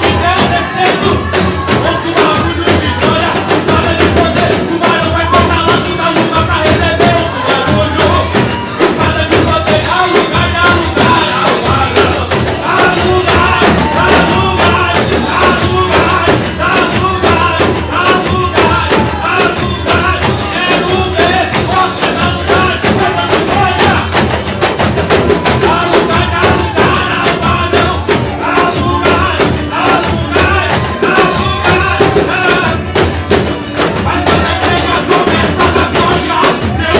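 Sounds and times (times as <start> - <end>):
man singing into a microphone: 0.0 - 36.9
tambourines shaken: 0.0 - 36.9
worship music: 0.0 - 36.9.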